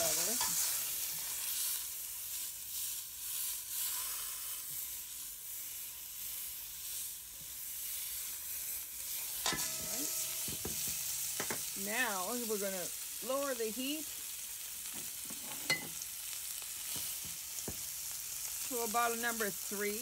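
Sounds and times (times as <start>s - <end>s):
meat sizzling in hot oil: 0.0s - 20.0s.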